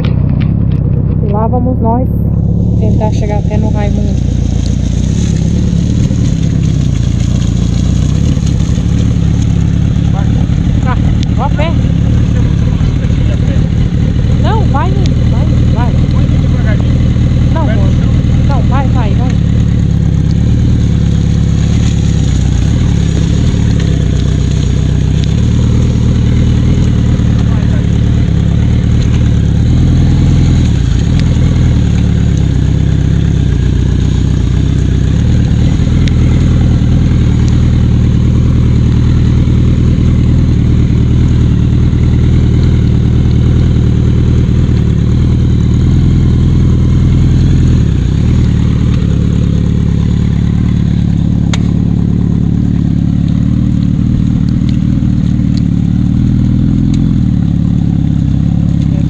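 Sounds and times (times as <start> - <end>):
motorcycle engines running: 0.0 - 59.0.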